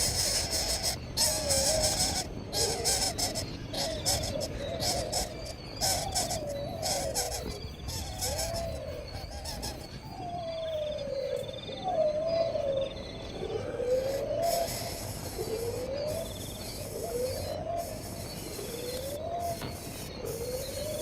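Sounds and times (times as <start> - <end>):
bird calling wavering notes: 0.0 - 21.0.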